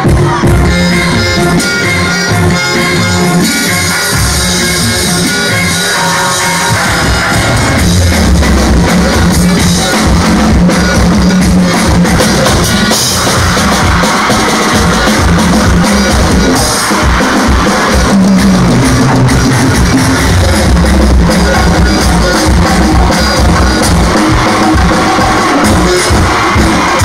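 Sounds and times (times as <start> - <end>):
heavy bass: 0.0 - 27.0
music with driving drum beat: 0.0 - 27.0.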